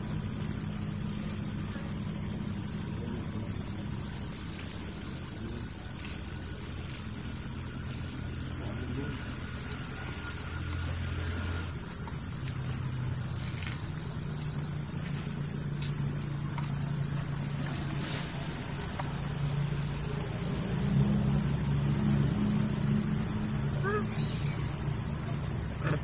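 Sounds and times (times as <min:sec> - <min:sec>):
low engine hum: 0:00.0 - 0:26.0
shrill insect chorus: 0:00.0 - 0:26.0.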